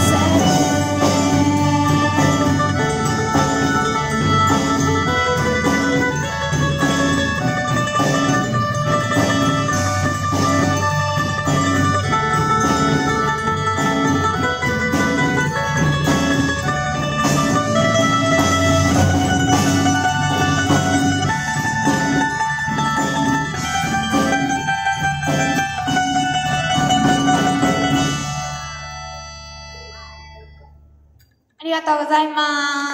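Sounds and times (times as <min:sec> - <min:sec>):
drum kit: 0:00.0 - 0:30.6
acoustic guitar: 0:00.0 - 0:31.3
keyboard: 0:00.0 - 0:32.9.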